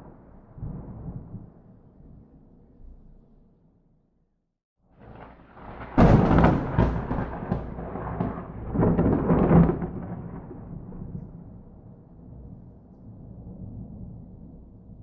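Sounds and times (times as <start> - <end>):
thunder crack and rumble: 0.0 - 2.3, 5.0 - 15.0.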